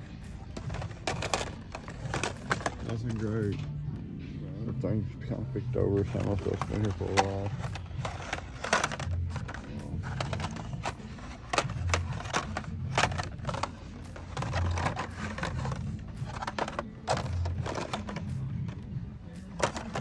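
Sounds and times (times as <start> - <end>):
plastic toy packages clacking: 0.5 - 3.6, 5.9 - 18.8, 19.4 - 20.0.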